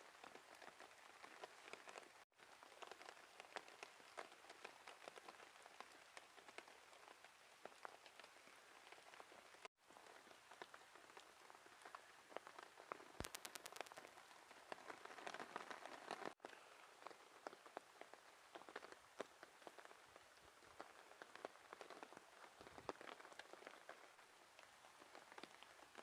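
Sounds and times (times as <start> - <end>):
heavy rain on a tarp: 0.0 - 26.0.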